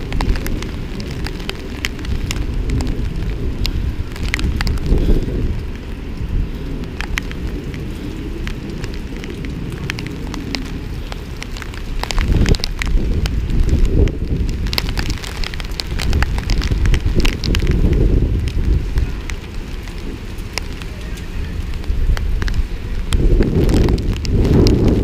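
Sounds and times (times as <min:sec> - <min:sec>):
hard rain falling: 0:00.0 - 0:25.0
low steady rumble: 0:00.0 - 0:25.0
raindrops tapping close: 0:00.0 - 0:25.0.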